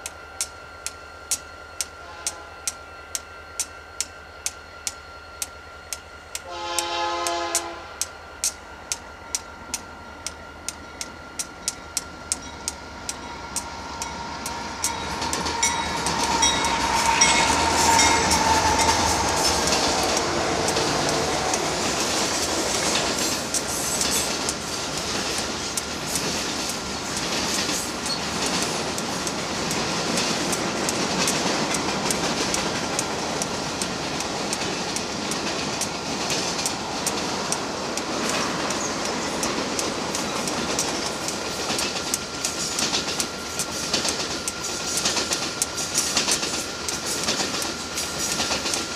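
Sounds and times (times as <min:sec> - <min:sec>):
locomotive whine: 0:00.0 - 0:48.9
train wheels clacking over joints: 0:08.4 - 0:48.9.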